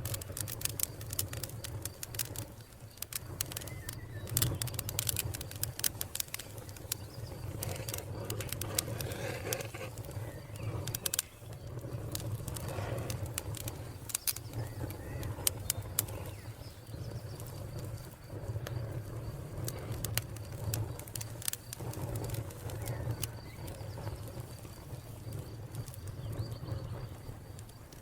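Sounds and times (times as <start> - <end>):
cricket chirring: 0.0 - 28.0
wood fire crackling: 0.0 - 28.0
low bird calls: 2.2 - 27.4.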